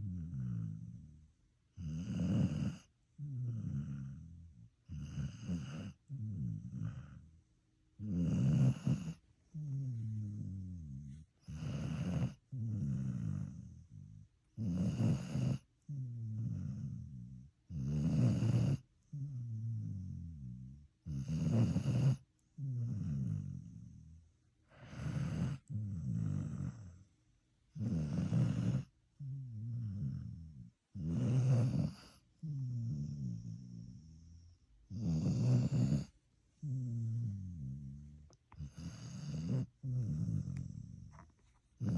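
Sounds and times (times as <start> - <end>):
dog snoring: 0.0 - 7.3, 8.0 - 27.1, 27.7 - 41.9.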